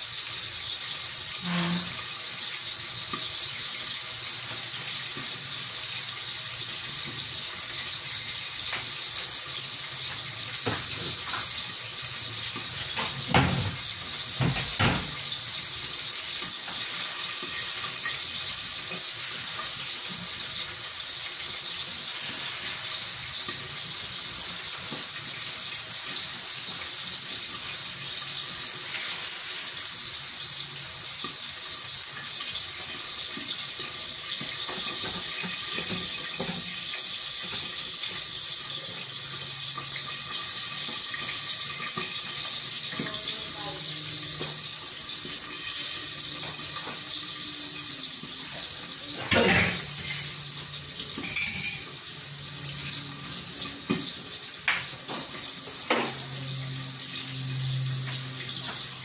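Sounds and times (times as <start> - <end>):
vegetables sizzling in a pan: 0.0 - 59.0.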